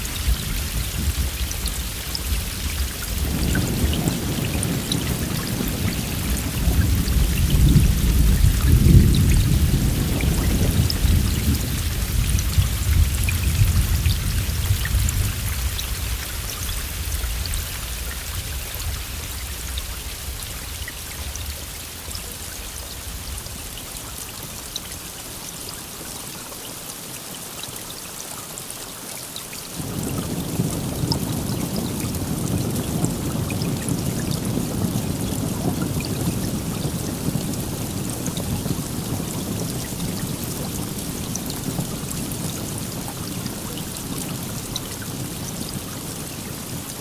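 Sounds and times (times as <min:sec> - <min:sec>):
rolling thunder: 0:00.0 - 0:23.8, 0:29.8 - 0:47.0
heavy rain: 0:00.0 - 0:47.0.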